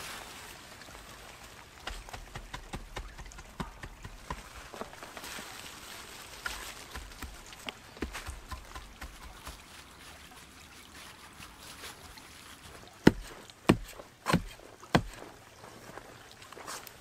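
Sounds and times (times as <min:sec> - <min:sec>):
soil scraping and rustling: 0:00.0 - 0:17.0.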